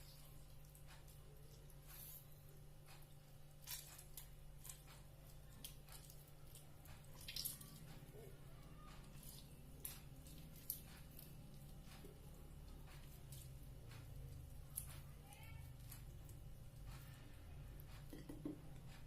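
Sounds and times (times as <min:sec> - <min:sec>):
faint clicks and drips: 0:00.0 - 0:19.0
low steady hum: 0:00.0 - 0:19.0.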